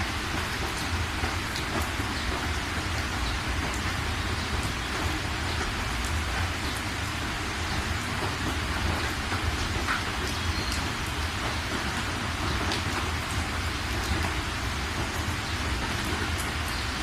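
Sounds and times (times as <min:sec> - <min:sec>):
rain falling: 0:00.0 - 0:17.0
ticks of raindrops: 0:00.0 - 0:17.0.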